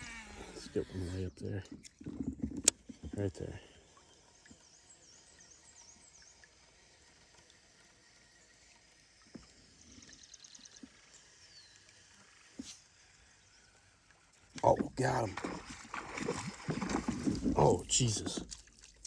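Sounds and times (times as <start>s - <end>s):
faint birdsong: 0.0s - 15.8s.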